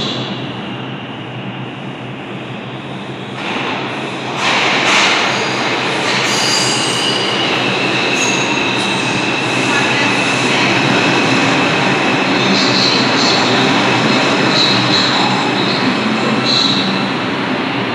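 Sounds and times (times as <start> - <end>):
high steady train squeal: 0.0 - 17.9
subway train rumble: 0.0 - 17.9.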